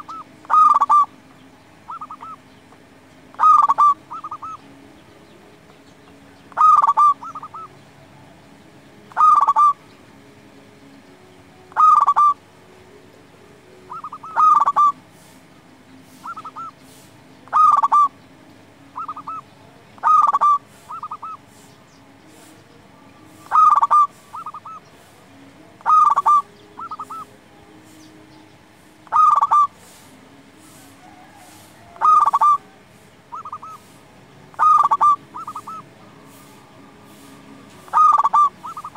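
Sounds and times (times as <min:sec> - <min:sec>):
dove cooing: 0:00.0 - 0:02.5, 0:03.3 - 0:04.7, 0:06.5 - 0:08.4, 0:09.1 - 0:09.9, 0:11.7 - 0:12.5, 0:13.7 - 0:15.5, 0:16.1 - 0:18.2, 0:18.8 - 0:38.9.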